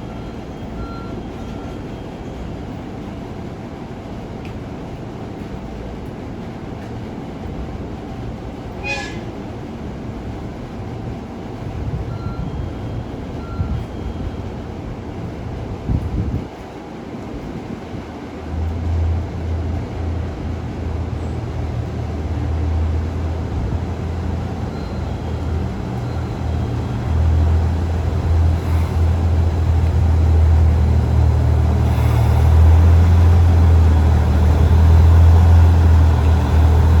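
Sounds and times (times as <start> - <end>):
diesel train low drone: 0.0 - 37.0.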